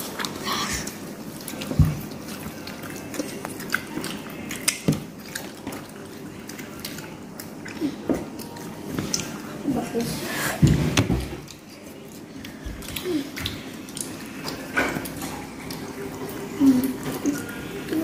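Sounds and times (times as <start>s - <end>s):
chicken torn and chewed: 0.0s - 9.6s, 11.4s - 18.0s.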